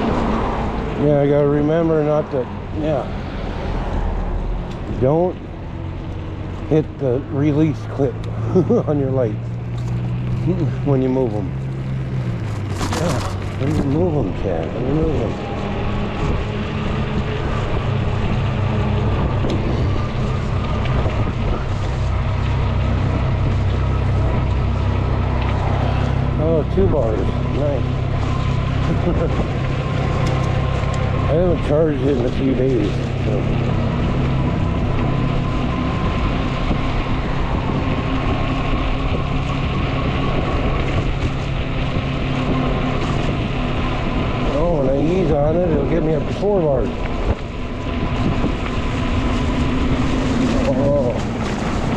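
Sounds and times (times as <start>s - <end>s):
bicycle road noise: 0.0s - 51.9s
wind rumble on microphone: 0.0s - 51.9s.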